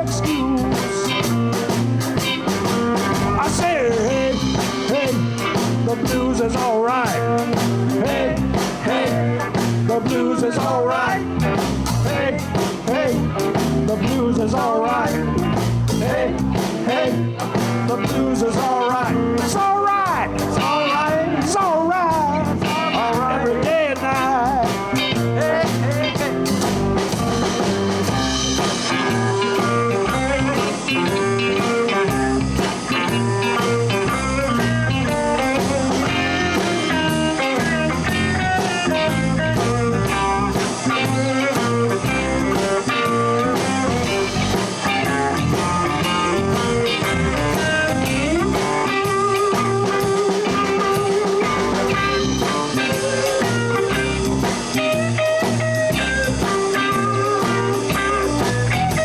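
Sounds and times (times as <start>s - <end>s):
lead guitar: 0.0s - 59.0s
live blues band playing: 0.0s - 59.0s.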